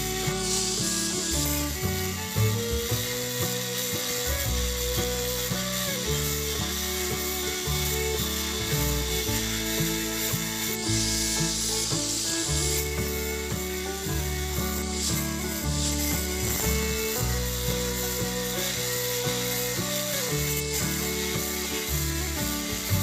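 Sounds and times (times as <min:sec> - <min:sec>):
angle grinder cutting steel: 0:00.0 - 0:23.0.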